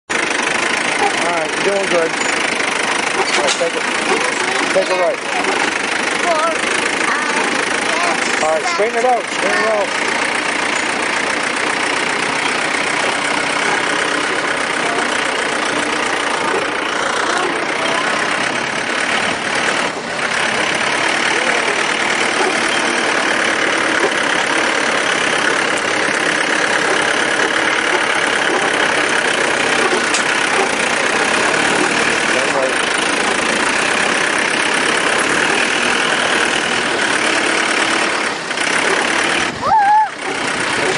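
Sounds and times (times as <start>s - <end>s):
tractor engine running: 0.1s - 40.9s.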